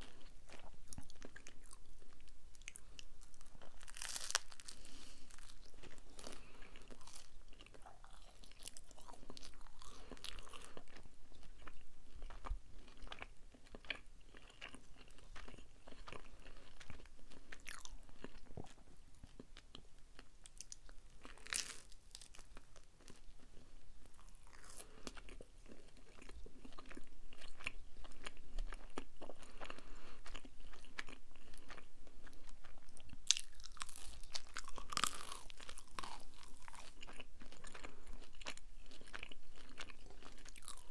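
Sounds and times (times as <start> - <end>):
chewing crunchy pizza: 0.0 - 40.9.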